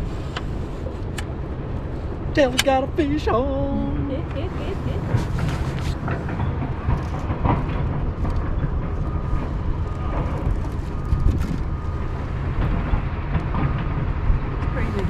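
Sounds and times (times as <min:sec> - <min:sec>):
diesel engines rumbling: 0:00.0 - 0:15.0.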